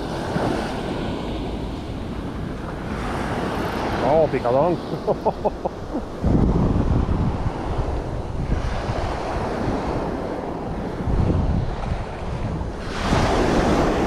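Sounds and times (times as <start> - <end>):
sea waves on rocky shore: 0.0 - 14.0
wind buffeting microphone: 0.0 - 14.0.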